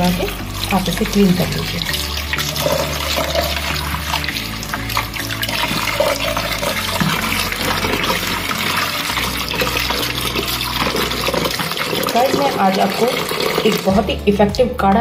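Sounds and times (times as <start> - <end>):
tap water running into bowl: 0.0 - 14.1.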